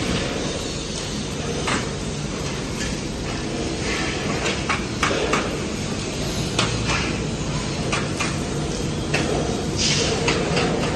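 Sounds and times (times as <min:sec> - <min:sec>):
machine hum and hiss: 0:00.0 - 0:10.9.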